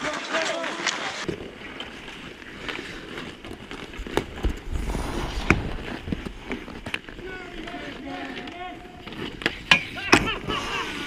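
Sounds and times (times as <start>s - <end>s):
hockey sticks and puck clacking: 0.0s - 4.7s, 5.5s - 11.0s
skates scraping over ice: 0.0s - 11.0s.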